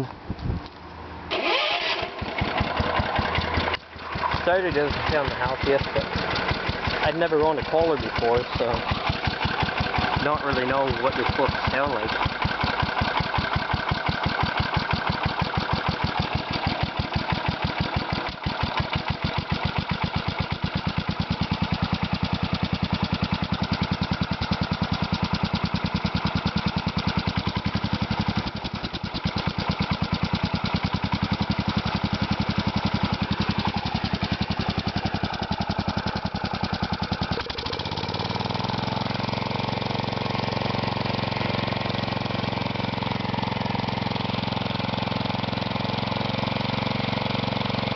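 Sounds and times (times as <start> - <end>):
single-cylinder engine running: 0.7 - 47.9.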